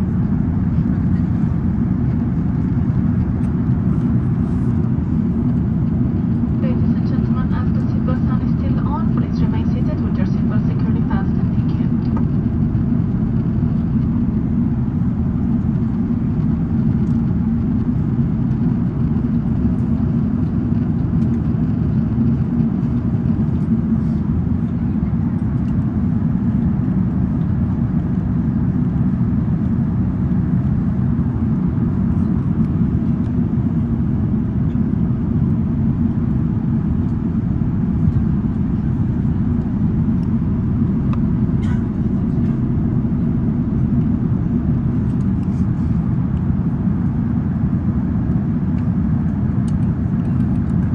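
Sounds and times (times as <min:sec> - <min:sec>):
aircraft cabin engine rumble: 0:00.0 - 0:50.9.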